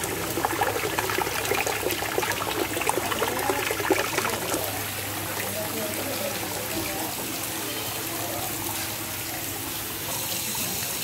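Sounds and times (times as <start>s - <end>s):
water pouring into tank: 0.0s - 11.0s.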